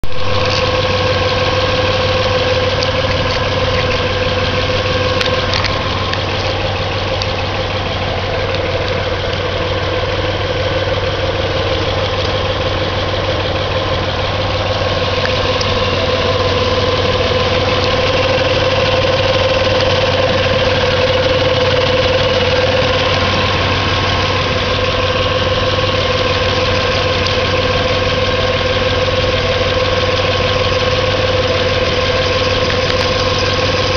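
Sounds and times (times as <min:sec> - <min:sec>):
car engine idling: 0:00.0 - 0:33.9
constant pitched tone: 0:00.0 - 0:33.9.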